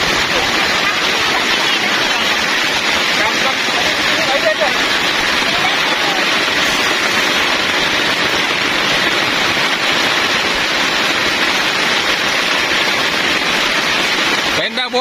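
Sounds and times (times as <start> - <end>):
strong wind: 0.0 - 14.6
heavy rain on shelter: 0.0 - 15.0.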